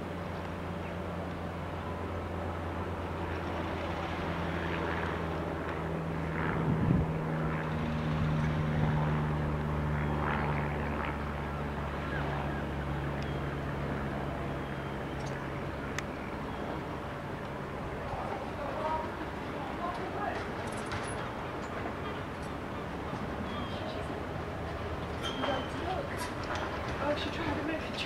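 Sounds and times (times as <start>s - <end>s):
locomotive motors humming: 0.0s - 28.0s.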